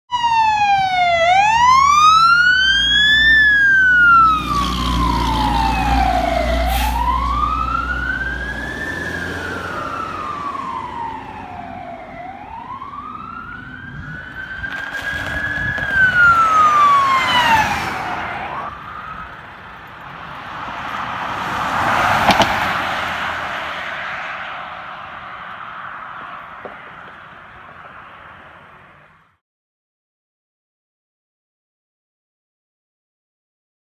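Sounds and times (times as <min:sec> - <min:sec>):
sirens wailing: 0:00.1 - 0:29.2
vehicle rushing past: 0:00.7 - 0:29.2.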